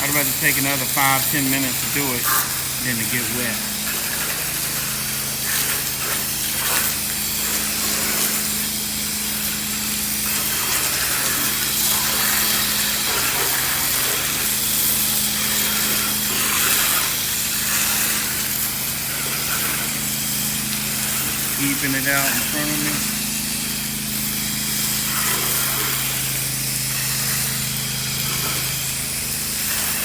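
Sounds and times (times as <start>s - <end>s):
machine humming: 0.0s - 30.0s
pressure washer water jet hissing: 0.0s - 30.0s.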